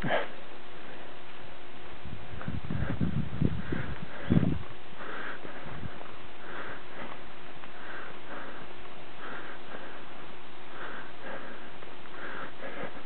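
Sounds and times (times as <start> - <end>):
person breathing heavily: 0.0 - 1.6, 2.4 - 13.0
steady hiss: 0.0 - 13.0.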